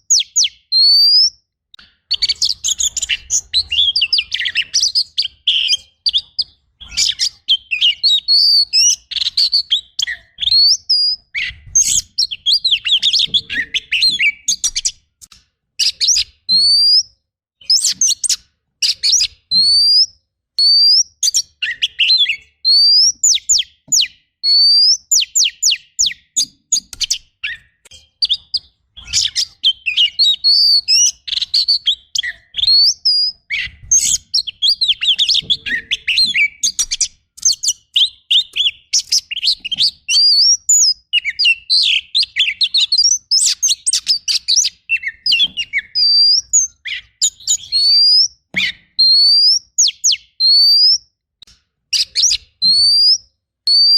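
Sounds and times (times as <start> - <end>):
bird singing: 0.0 - 15.1, 15.8 - 51.1, 51.9 - 53.9.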